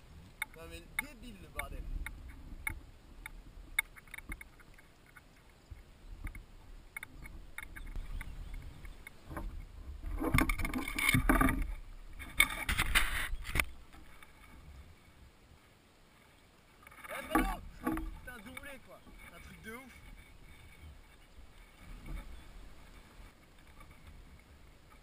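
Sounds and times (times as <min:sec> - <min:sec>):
fish rustling and knocking: 0:00.3 - 0:15.1, 0:16.7 - 0:25.0.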